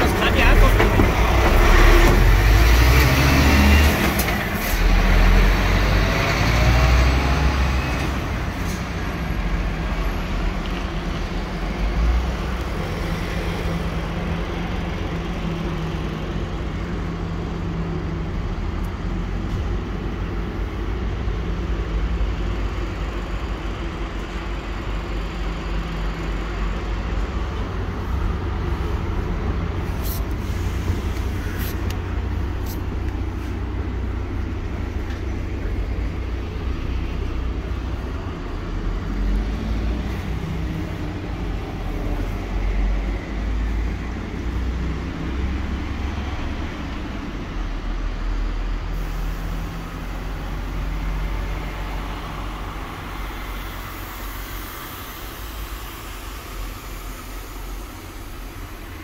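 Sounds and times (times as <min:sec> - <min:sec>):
diesel truck engine idling: 0:00.0 - 0:03.8, 0:04.4 - 0:59.0.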